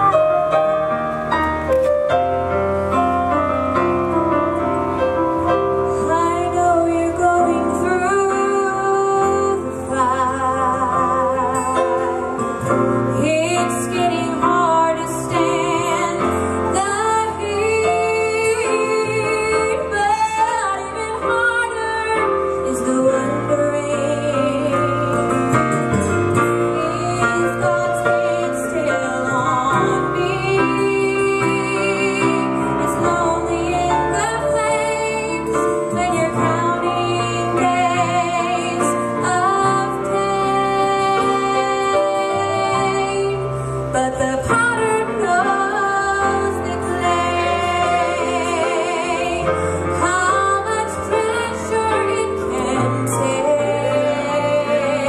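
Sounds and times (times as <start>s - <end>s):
electronic keyboard: 0.0s - 55.0s
woman singing into microphone: 5.9s - 55.0s.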